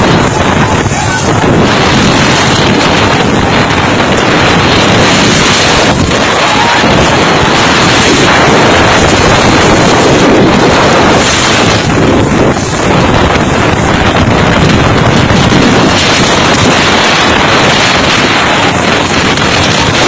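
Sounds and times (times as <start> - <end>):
driving rain: 0.0 - 20.0
wind blasting microphone: 0.0 - 20.0.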